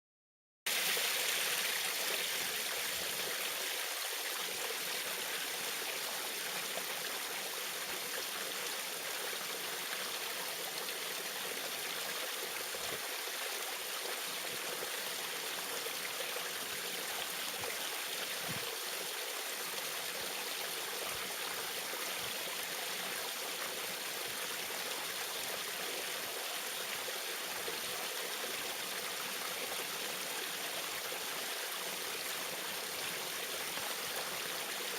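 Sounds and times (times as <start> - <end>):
small waterfall splashing: 0.7 - 34.9.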